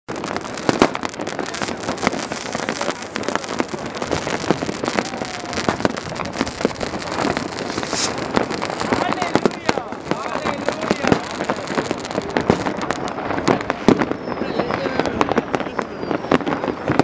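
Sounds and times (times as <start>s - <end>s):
fireworks crackling and popping: 0.0s - 17.0s
loud firework cracks: 0.1s - 17.0s.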